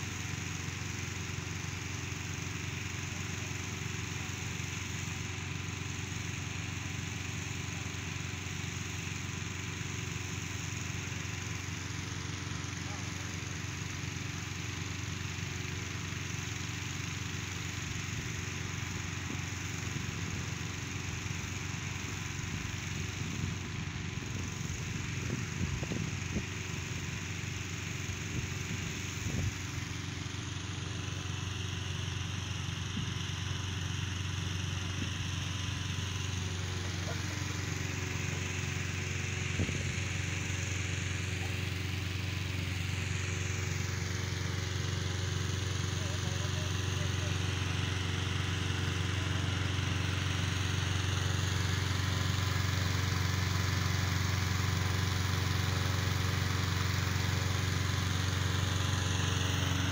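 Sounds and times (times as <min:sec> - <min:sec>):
engine-driven inflator fan running: 0:00.0 - 0:59.9.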